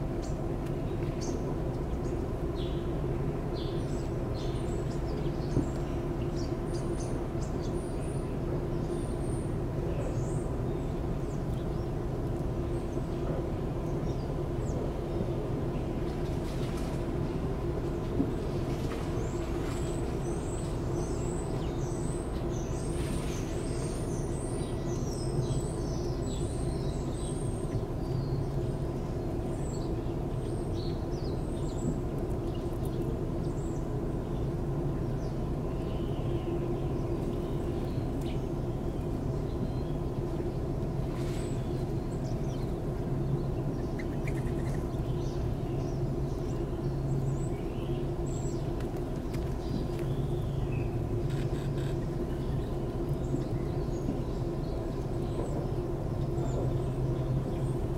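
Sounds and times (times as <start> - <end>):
low machine hum: 0.0 - 57.9.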